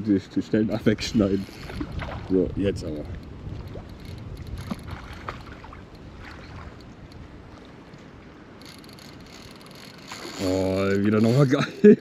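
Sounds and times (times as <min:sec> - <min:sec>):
wind rumbling on microphone: 0:00.0 - 0:11.4
faint water noise: 0:00.0 - 0:12.0.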